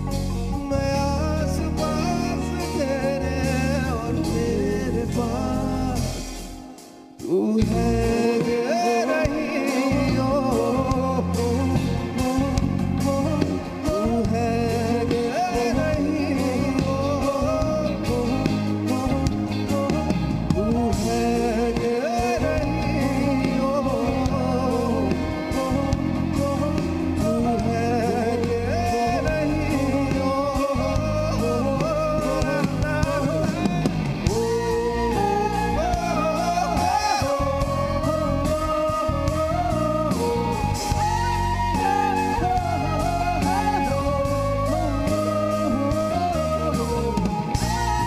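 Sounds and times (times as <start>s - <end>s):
drum kit with cymbals: 0.0s - 48.0s
electric guitar: 0.0s - 48.0s
keyboards: 0.0s - 48.0s.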